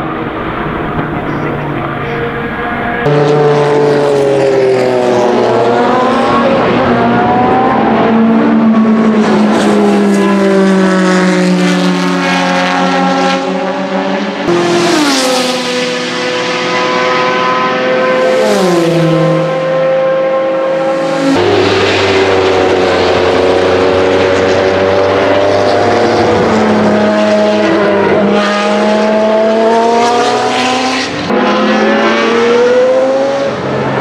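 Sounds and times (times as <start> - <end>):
race car engines at speed: 0.0 - 34.0
race car passing by: 0.0 - 34.0.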